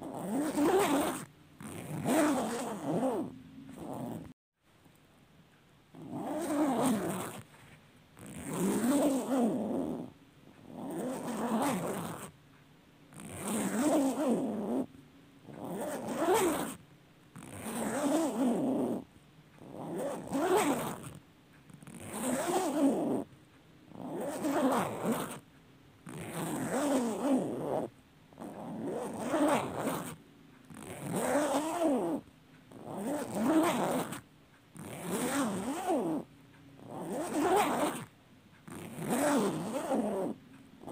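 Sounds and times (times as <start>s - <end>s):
zipper being pulled: 0.0s - 4.4s, 6.0s - 12.3s, 13.1s - 14.9s, 15.5s - 16.8s, 17.4s - 23.3s, 23.9s - 25.4s, 26.0s - 34.2s, 34.8s - 38.1s, 38.7s - 40.9s.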